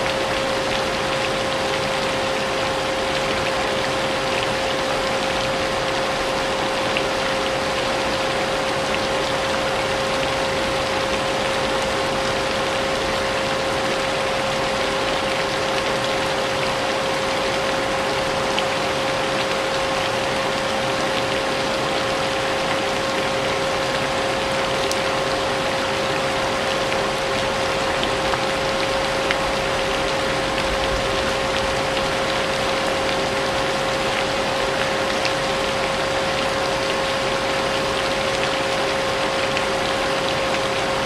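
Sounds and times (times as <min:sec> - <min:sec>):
rain hissing: 0:00.0 - 0:41.0.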